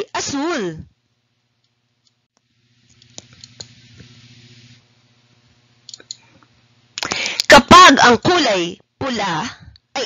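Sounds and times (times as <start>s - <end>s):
faint low hum and hiss: 0.0s - 10.0s.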